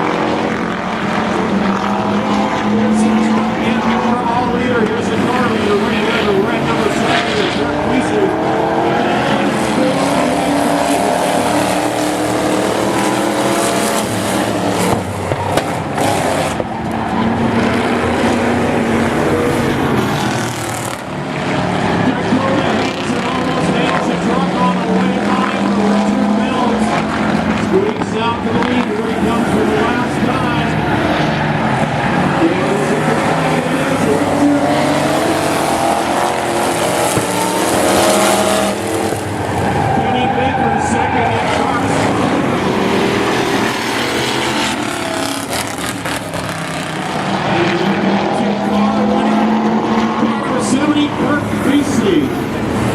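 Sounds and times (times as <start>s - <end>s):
race car engines passing: 0.0s - 52.9s.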